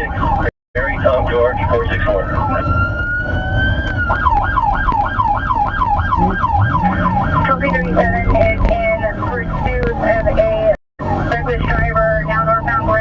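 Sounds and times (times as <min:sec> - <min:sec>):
police car siren: 0:00.0 - 0:13.0.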